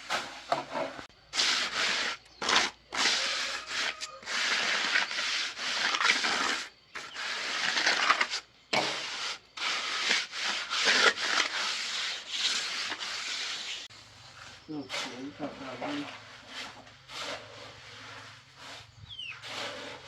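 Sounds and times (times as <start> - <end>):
shovel scraping concrete mix: 0.0 - 20.0.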